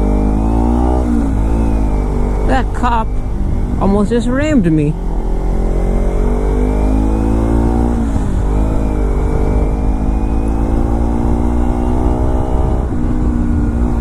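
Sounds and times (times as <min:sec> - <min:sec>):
motorcycle engine accelerating: 0:00.0 - 0:14.0
wind rumble: 0:00.0 - 0:14.0.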